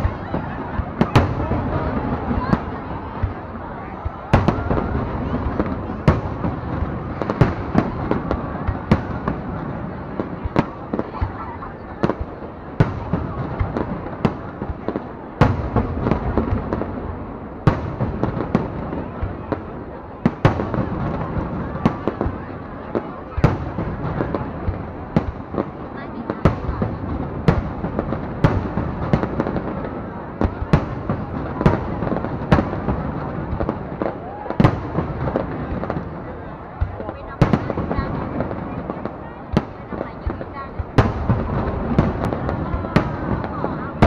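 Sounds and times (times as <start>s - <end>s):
fireworks bangs: 0.0s - 44.0s
rumble of explosions: 0.0s - 44.0s.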